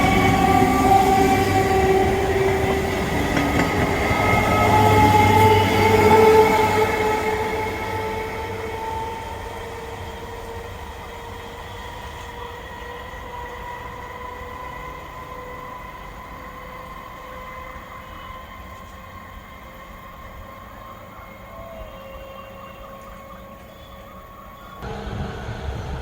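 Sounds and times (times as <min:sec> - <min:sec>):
electric train motors whining: 0:00.0 - 0:26.0.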